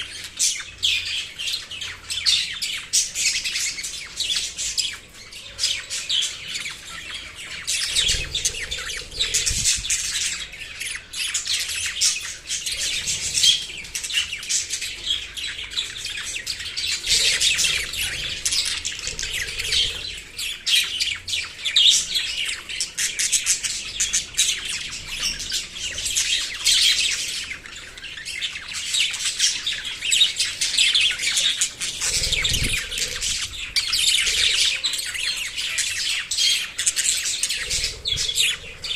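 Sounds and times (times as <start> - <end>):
small parrots chirping and chattering: 0.0 - 38.9.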